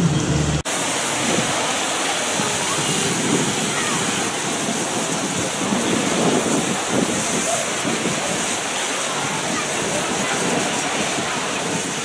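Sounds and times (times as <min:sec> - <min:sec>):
sea surf washing on shore: 0:00.6 - 0:12.0.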